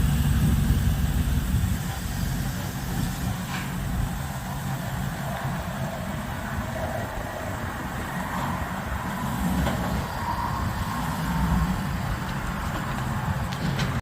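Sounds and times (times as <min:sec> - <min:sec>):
engine rumbling through exhaust: 0:00.0 - 0:14.0.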